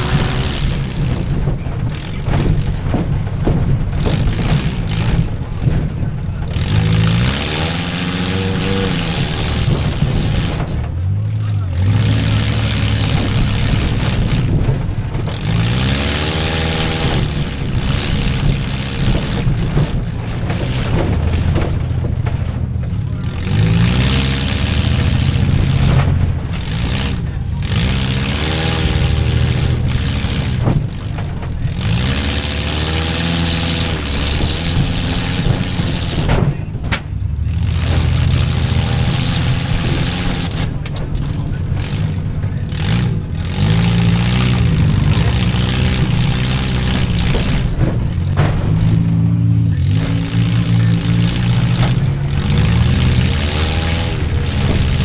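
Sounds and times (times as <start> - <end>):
van engine revving: 0.0 - 55.0.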